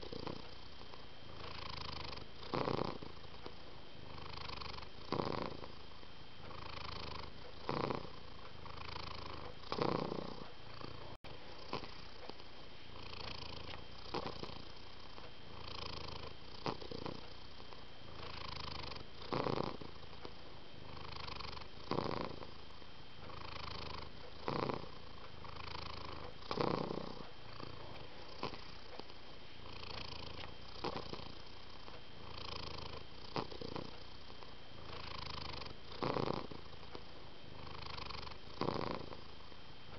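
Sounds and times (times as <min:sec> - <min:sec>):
cat purring: 0:00.0 - 0:39.4.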